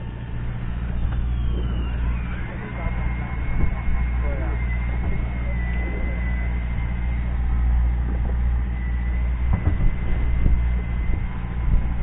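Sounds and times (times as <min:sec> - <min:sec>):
boat engine humming: 0:00.0 - 0:12.0
thin high whine: 0:00.0 - 0:12.0.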